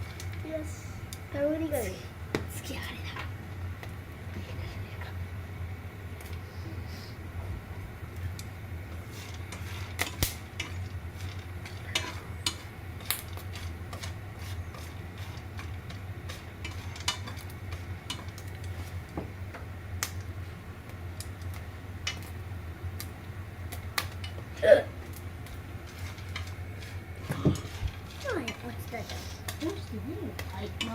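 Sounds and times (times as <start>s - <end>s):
popcorn popping: 0.0s - 4.2s, 8.0s - 30.9s
steady low hum: 0.0s - 30.9s.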